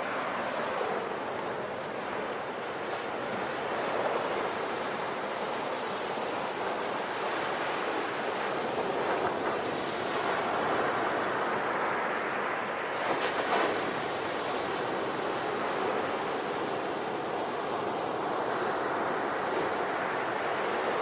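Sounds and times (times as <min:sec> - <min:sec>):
waves washing onto shore: 0:00.0 - 0:21.0.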